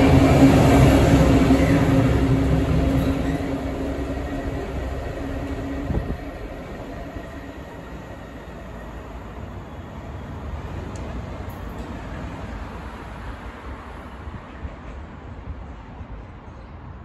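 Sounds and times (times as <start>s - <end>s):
diesel locomotive engine droning: 0.0s - 16.4s.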